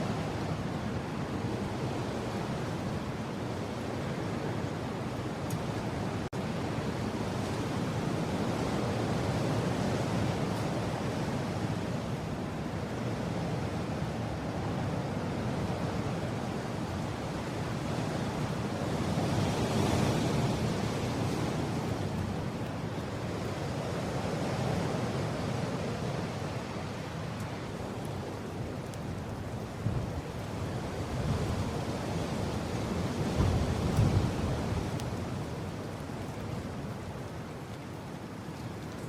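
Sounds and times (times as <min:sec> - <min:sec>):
rushing wind: 0:00.0 - 0:39.0.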